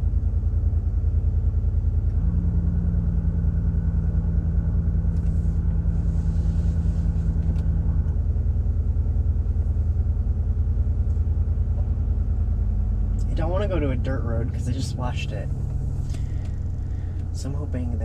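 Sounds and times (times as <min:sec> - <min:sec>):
low pulsing exhaust drone: 0:00.0 - 0:18.0
steady hum: 0:00.0 - 0:18.0.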